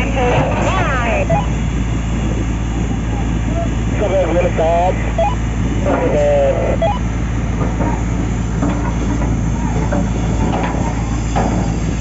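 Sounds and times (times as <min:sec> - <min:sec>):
diesel rumble of heavy equipment: 0:00.0 - 0:12.0.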